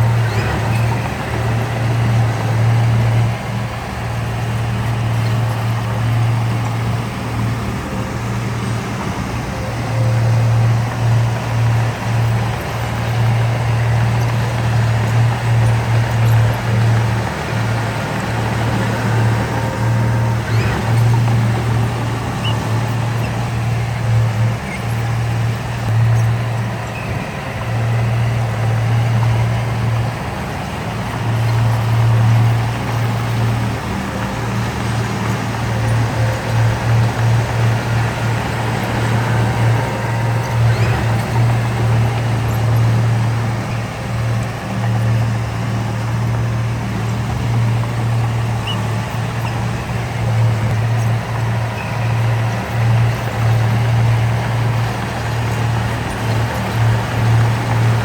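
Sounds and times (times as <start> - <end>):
engine clatter: 0.0 - 58.0
heavy diesel engine running: 0.0 - 58.0.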